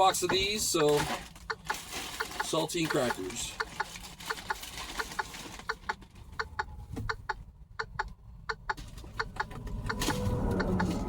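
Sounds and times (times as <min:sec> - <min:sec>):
hen clucking: 0:00.0 - 0:11.0.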